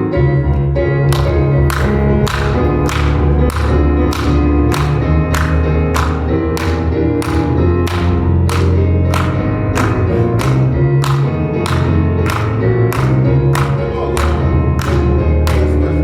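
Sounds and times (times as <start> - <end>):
gospel church band music: 0.0 - 16.0.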